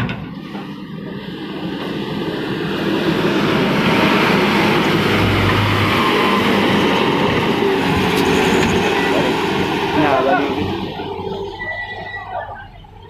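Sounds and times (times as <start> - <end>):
heavy diesel engines running: 0.0 - 13.0.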